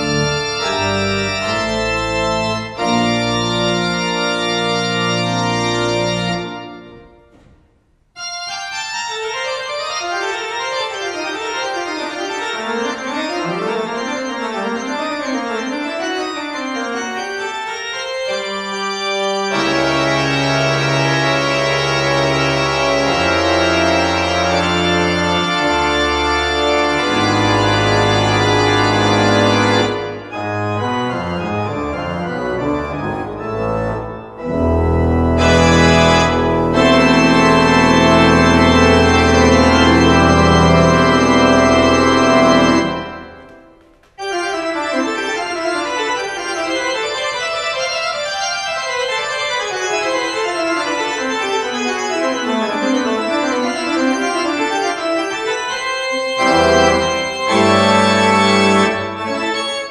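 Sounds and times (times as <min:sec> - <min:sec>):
pipe organ playing: 0:00.0 - 0:07.5, 0:08.2 - 0:59.9.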